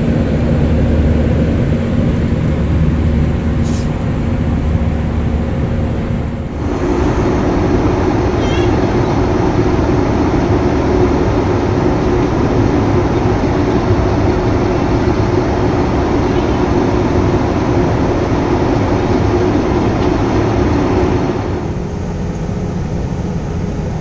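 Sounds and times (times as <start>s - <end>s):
aircraft cabin engine noise: 0.0s - 24.0s
low hum: 0.0s - 24.0s.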